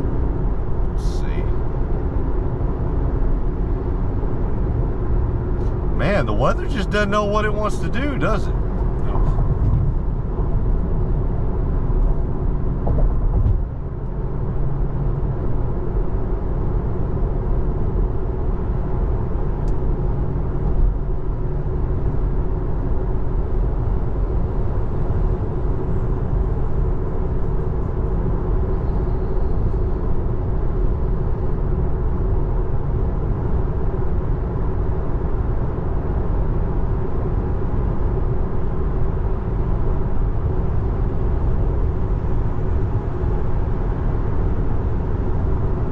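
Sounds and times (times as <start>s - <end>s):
tyre and road noise in car cabin: 0.0s - 45.9s.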